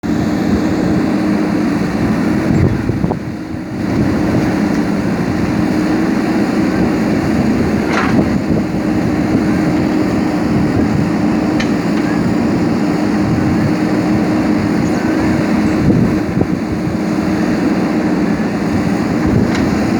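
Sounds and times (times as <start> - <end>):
diesel engine droning: 0.0 - 19.9.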